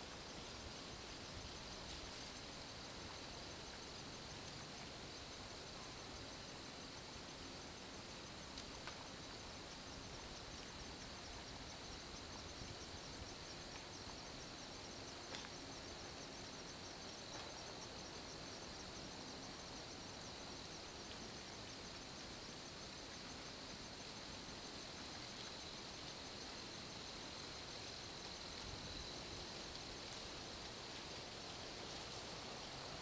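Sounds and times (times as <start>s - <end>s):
background hiss: 0.0s - 33.0s
insects chirping: 0.0s - 33.0s.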